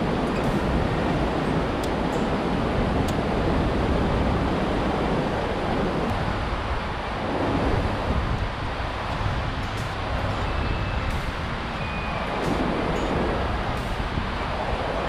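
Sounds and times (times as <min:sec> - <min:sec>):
shallow river rushing: 0:00.0 - 0:15.0
traffic rumble on bridge: 0:00.0 - 0:15.0.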